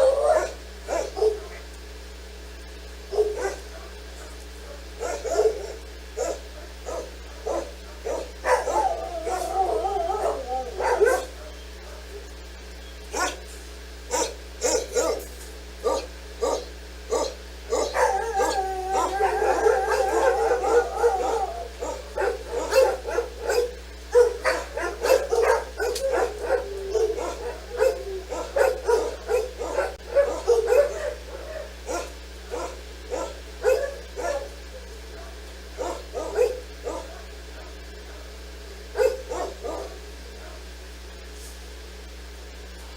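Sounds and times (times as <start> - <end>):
dog howling: 0.0 - 1.6, 3.1 - 12.2, 14.1 - 38.3, 38.9 - 40.6
dog barking: 0.0 - 1.8, 3.1 - 12.3, 13.1 - 13.5, 14.1 - 40.8.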